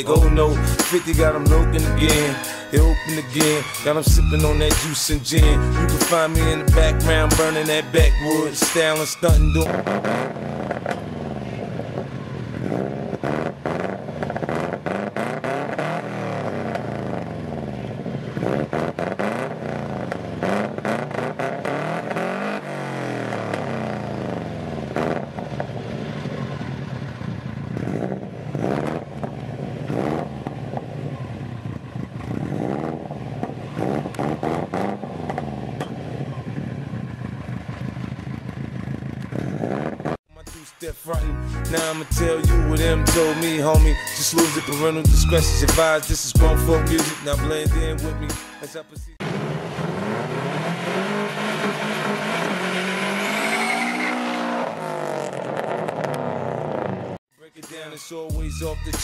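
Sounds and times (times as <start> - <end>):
car engine revving: 0.0 - 57.2.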